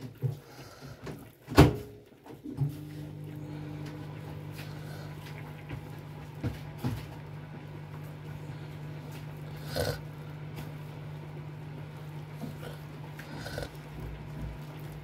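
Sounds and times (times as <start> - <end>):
steady low hum: 2.6 - 15.0.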